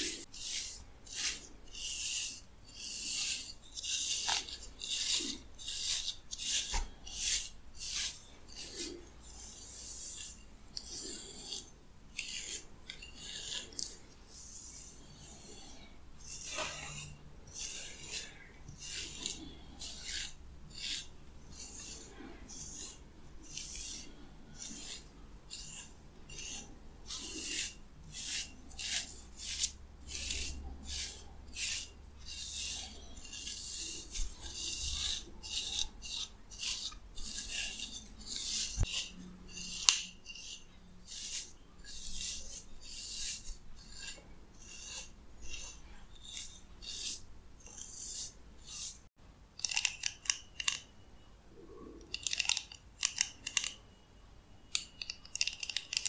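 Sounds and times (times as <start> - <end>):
hairbrush rasping through wet hair: 0.0 - 49.1.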